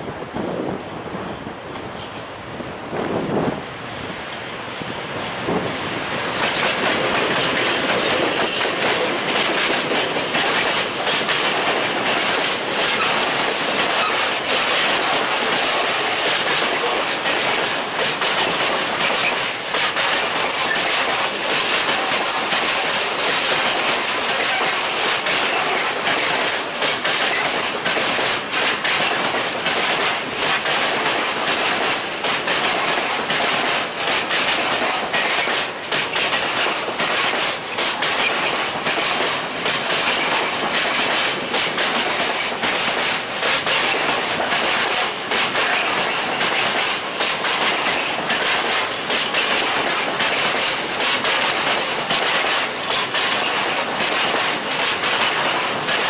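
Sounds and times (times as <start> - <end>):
freight train wheels clattering: 4.2 - 56.0.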